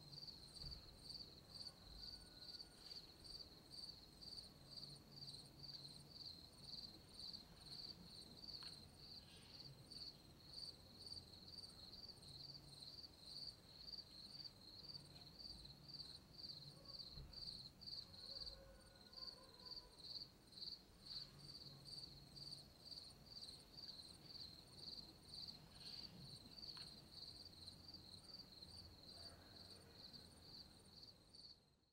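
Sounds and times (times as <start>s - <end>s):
cricket chirping: 0.1s - 31.6s.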